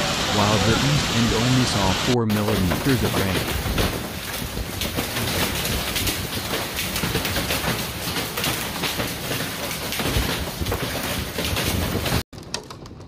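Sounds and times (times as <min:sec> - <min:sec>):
rain and hail pelting down: 0:00.0 - 0:12.2.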